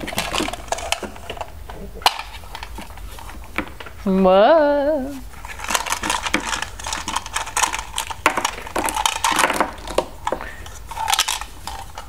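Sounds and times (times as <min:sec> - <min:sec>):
plastic toy parts clattering: 0:00.0 - 0:03.8, 0:05.3 - 0:12.0.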